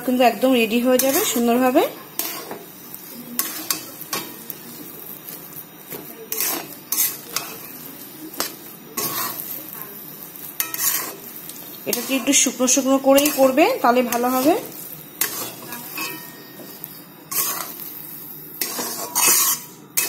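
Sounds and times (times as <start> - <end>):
oil sizzling: 0.0 - 20.0
utensil scraping frying pan: 0.0 - 20.0.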